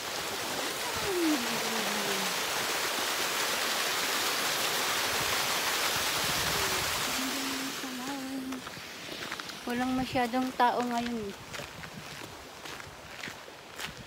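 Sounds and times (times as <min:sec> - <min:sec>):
waterfall splashing: 0:00.0 - 0:11.3.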